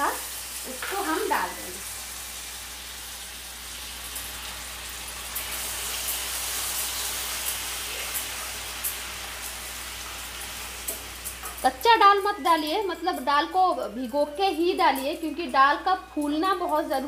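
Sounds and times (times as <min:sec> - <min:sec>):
syrup sizzling in a pan: 0:00.0 - 0:16.3.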